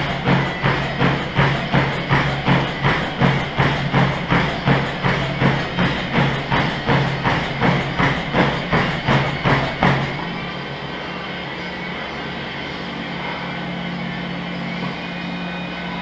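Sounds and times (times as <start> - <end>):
footfalls pounding treadmill belt: 0.0 - 16.0
treadmill motor hum: 0.0 - 16.0.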